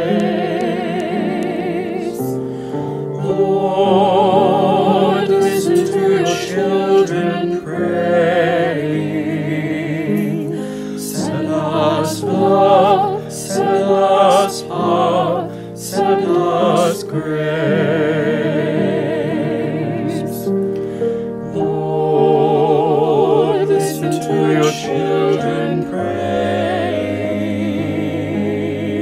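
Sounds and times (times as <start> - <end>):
piano accompaniment: 0.0 - 29.0
vocal quartet singing a hymn: 0.0 - 29.0.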